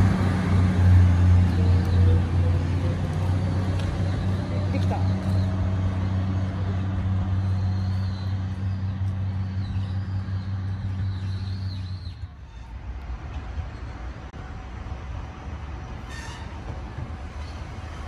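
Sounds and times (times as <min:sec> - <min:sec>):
diesel railcar engine drone: 0:00.0 - 0:18.0
train rumble: 0:00.0 - 0:18.0.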